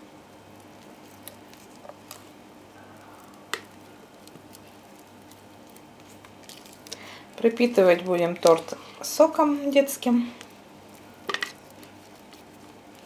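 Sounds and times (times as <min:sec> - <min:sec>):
batter squishing: 0:00.0 - 0:13.0.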